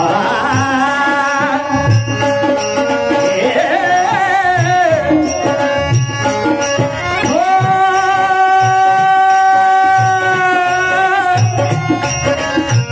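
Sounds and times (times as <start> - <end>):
devotional song melody: 0.0 - 12.9
regular percussion beat: 0.0 - 12.9.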